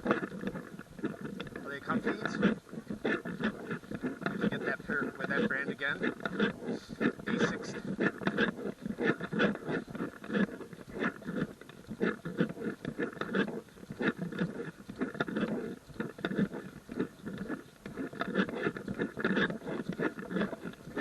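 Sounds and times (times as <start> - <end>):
footsteps on a trail: 0.0 - 21.0.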